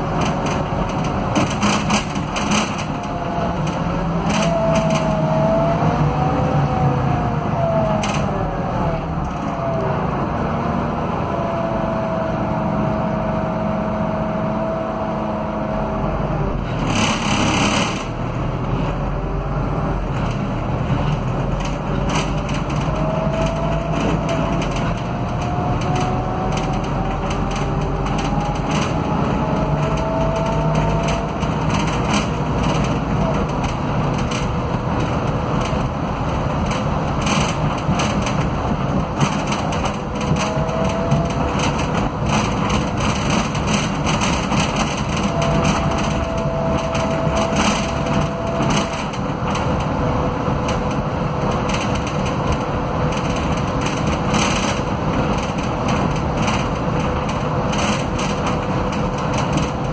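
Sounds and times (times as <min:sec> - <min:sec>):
bus diesel engine running: 0:00.0 - 0:59.9
bus interior rattles: 0:00.0 - 0:59.9
rear axle whine: 0:00.0 - 0:59.9.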